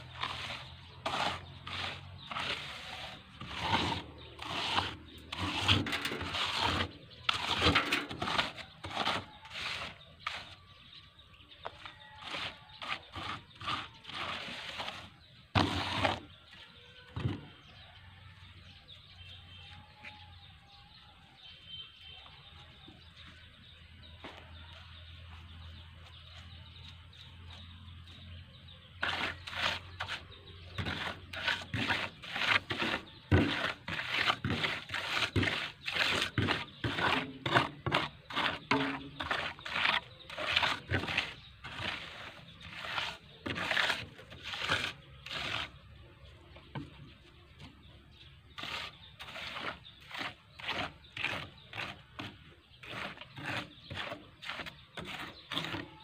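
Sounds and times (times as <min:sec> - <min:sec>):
trowel scraping wet concrete: 0:00.0 - 0:20.7, 0:28.6 - 0:56.0.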